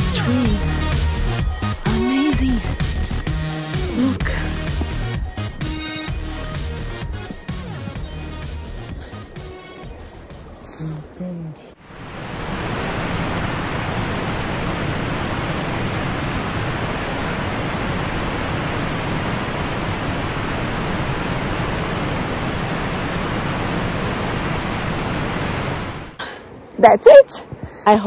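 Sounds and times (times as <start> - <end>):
river water flowing: 0.0 - 26.7.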